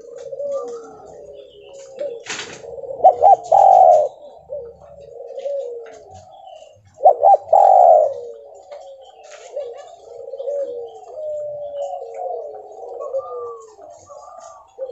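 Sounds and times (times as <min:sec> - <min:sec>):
dove cooing: 0:00.0 - 0:14.9.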